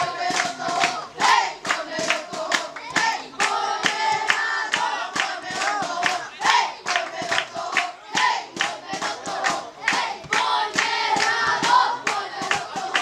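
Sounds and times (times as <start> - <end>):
crowd chanting in unison: 0.0 - 13.0
rhythmic clapping: 0.0 - 13.0.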